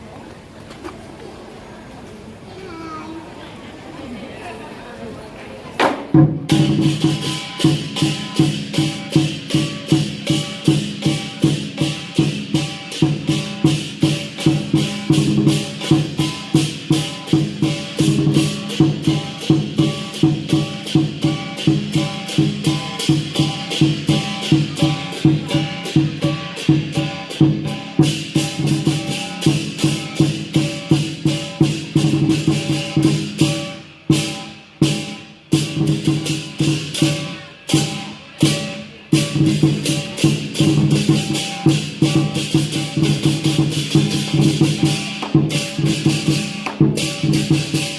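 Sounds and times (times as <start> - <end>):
drum beating fast rhythm: 6.1 - 47.9
cymbals clashing: 6.2 - 47.9.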